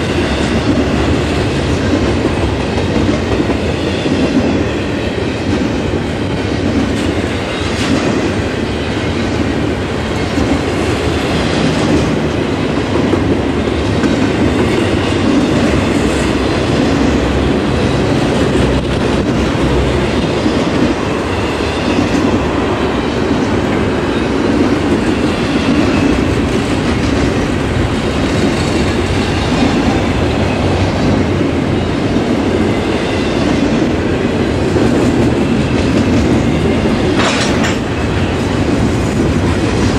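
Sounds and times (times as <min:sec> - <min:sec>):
steel train wheels rumbling on rail: 0:00.0 - 0:39.9.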